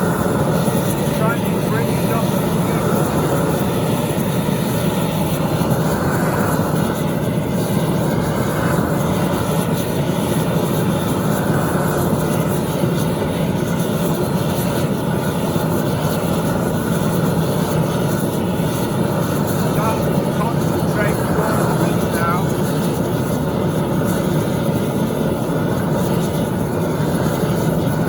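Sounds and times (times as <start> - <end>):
gas torch roaring: 0.0 - 28.0.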